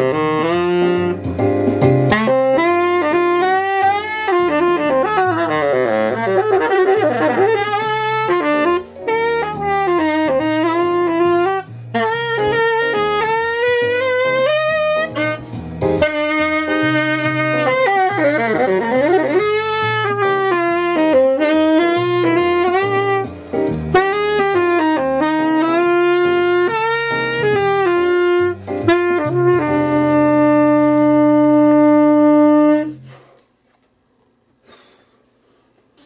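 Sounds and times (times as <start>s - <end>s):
tenor saxophone jazz tune: 0.0s - 33.3s.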